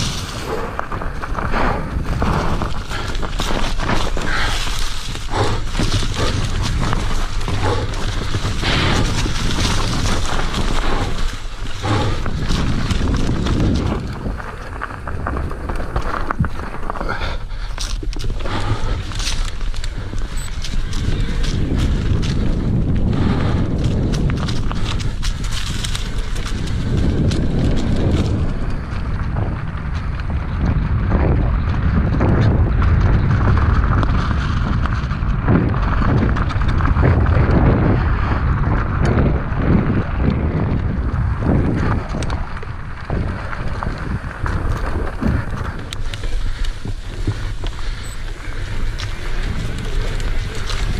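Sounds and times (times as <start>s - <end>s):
bike rattling over bumps: 0.0s - 50.9s
tyres on dirt trail: 0.0s - 50.9s
wind buffeting microphone: 0.0s - 50.9s.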